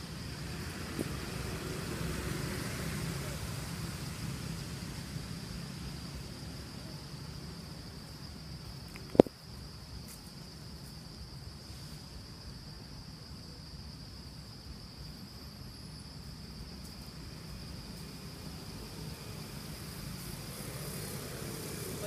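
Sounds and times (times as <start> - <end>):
high-pitched insect drone: 0.0 - 22.0
low outdoor rumble: 0.0 - 22.0.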